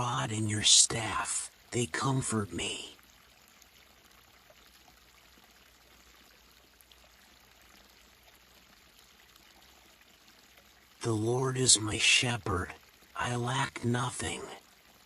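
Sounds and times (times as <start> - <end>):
faint babbling water: 0.0 - 15.0.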